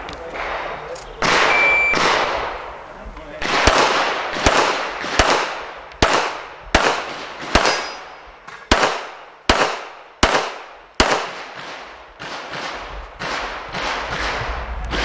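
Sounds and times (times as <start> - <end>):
pistol shots echoing: 0.4 - 2.7, 3.4 - 15.0.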